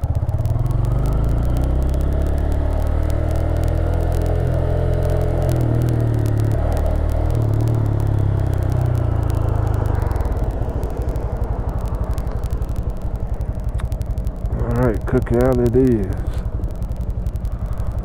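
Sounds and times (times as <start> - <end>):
motorcycle engine running and idling: 0.0 - 18.0.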